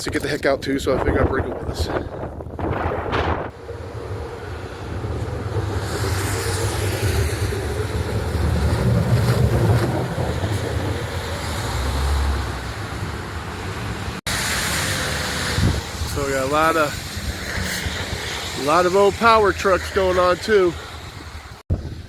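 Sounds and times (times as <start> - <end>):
wind buffeting microphone: 0.0 - 22.0
heavy truck engine passing: 2.2 - 21.6.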